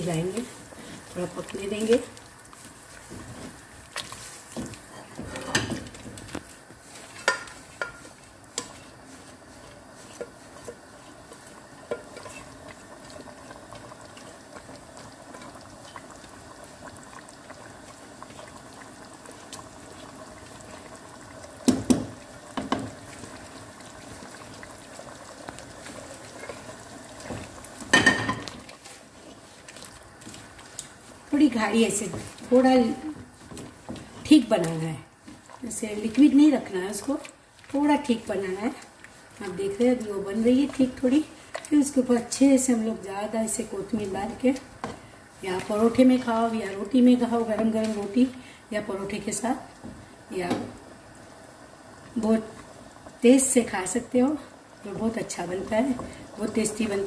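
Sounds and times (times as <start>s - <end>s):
curry simmering in a pot: 0.0s - 57.0s.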